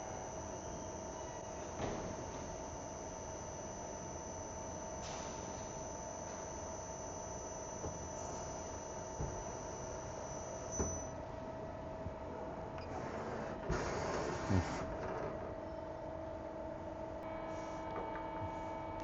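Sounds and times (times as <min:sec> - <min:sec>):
machine electrical whine and hum: 0:00.0 - 0:19.0.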